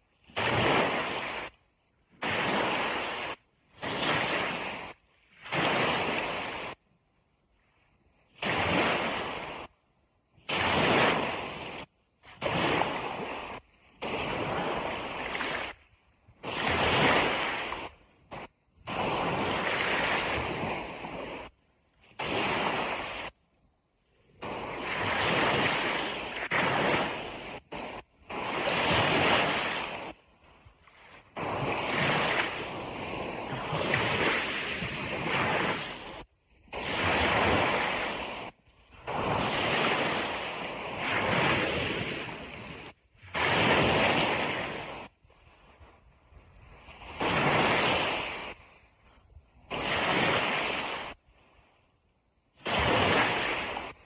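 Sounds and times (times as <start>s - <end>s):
ocean surf washing onto beach: 0.2s - 6.8s, 10.4s - 23.3s, 24.3s - 46.0s, 46.7s - 49.1s, 49.7s - 51.2s, 52.6s - 54.0s.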